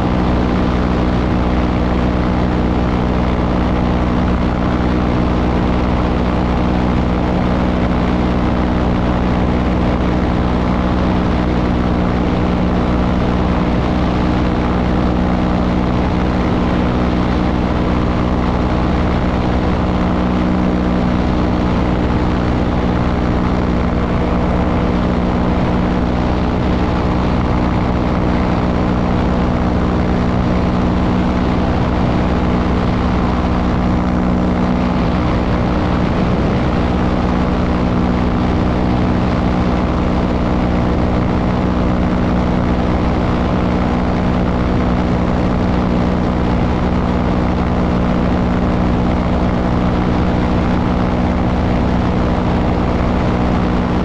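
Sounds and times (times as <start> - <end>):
propeller aircraft engine droning: 0.0 - 54.0.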